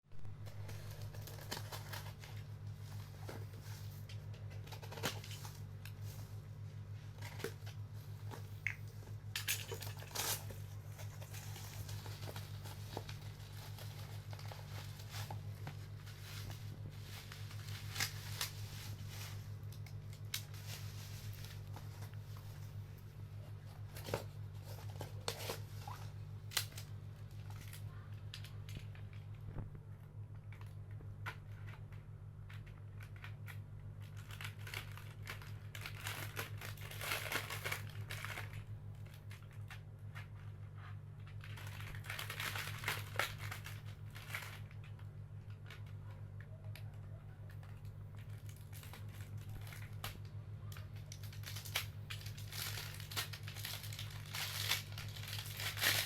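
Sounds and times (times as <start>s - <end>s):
steady low hum: 0.1s - 56.0s
packaging crinkling: 0.2s - 29.8s, 30.4s - 46.2s, 46.8s - 56.0s.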